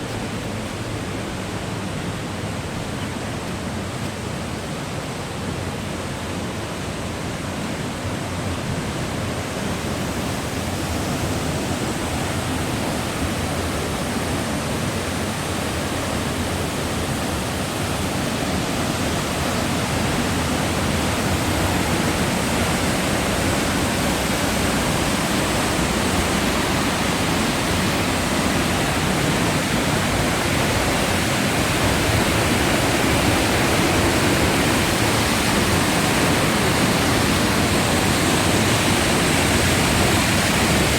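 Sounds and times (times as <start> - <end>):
rushing falling water: 0.0 - 40.9.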